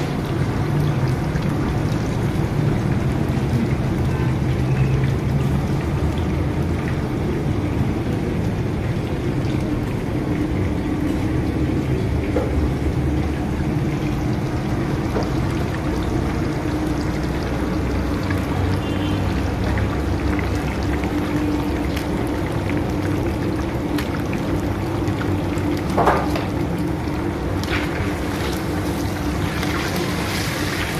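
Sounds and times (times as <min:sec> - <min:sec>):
fish sizzling in hot oil: 0:00.0 - 0:30.9.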